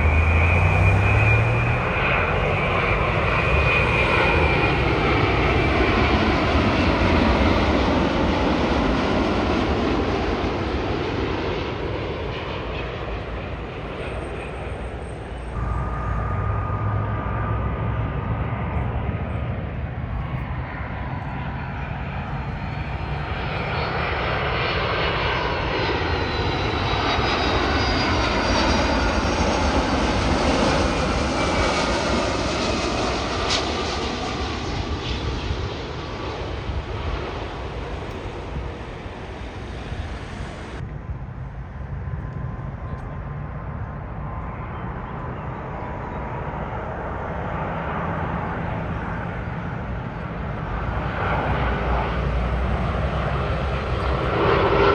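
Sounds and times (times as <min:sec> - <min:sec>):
jet airliner flying past: 0:00.0 - 0:54.9.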